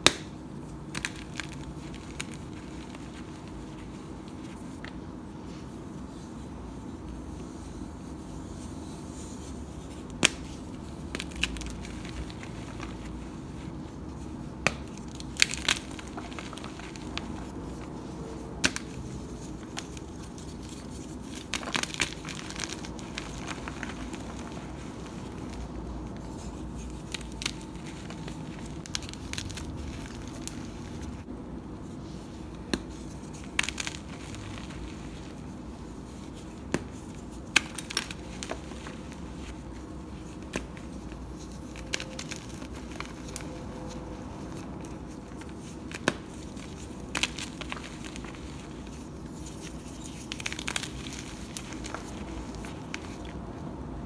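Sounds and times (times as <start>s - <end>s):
chalk blocks cracking and crunching: 0.0s - 5.0s, 8.6s - 31.3s, 32.0s - 53.6s.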